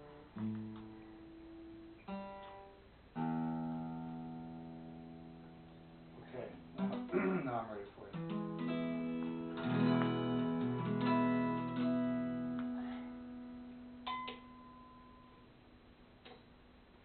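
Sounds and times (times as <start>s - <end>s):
acoustic guitar chords strummed: 0.0s - 15.5s.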